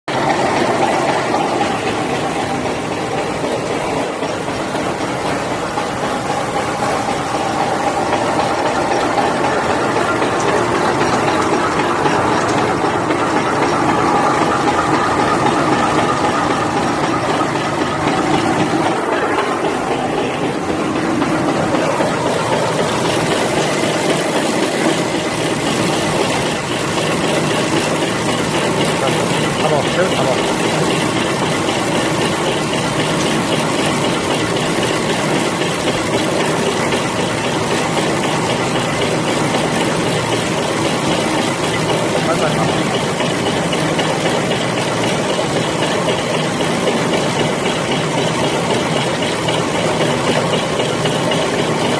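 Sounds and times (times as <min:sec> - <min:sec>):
packaging machine running: 0:00.1 - 0:51.9.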